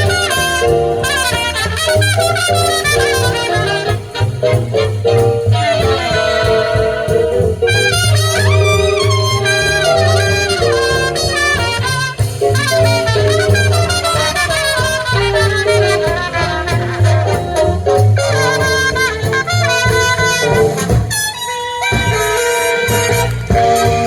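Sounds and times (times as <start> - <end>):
big-band jazz: 0.0 - 24.0.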